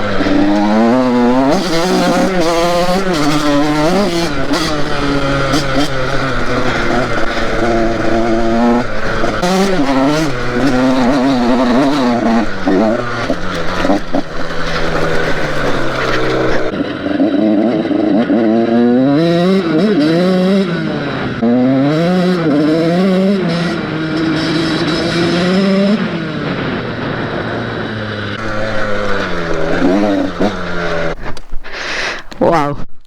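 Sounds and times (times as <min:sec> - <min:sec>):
two-stroke motorcycle engine revving: 0:00.0 - 0:32.4.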